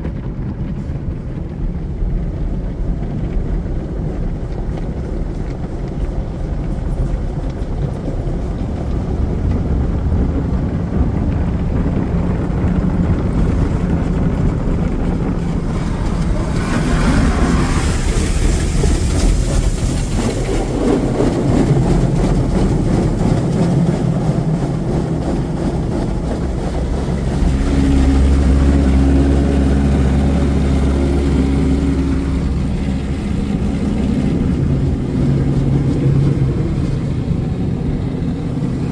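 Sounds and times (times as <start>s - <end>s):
car wash low rumble: 0.0s - 38.9s
loud steady drone: 0.0s - 38.9s.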